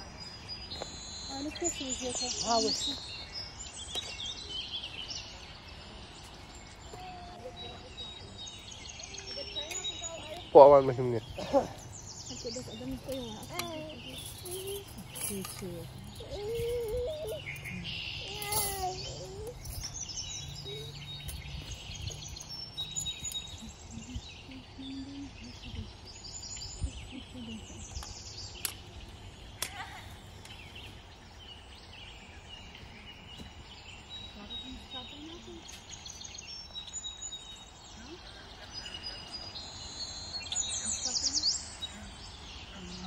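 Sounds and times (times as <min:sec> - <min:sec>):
outdoor background noise: 0:00.0 - 0:43.0
small birds chirping: 0:00.0 - 0:43.0.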